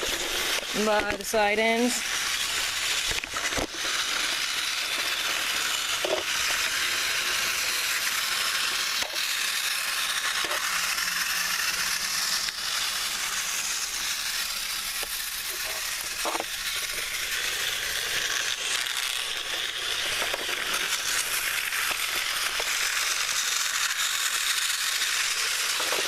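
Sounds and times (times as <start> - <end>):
toy train motors whirring: 0.0 - 26.0.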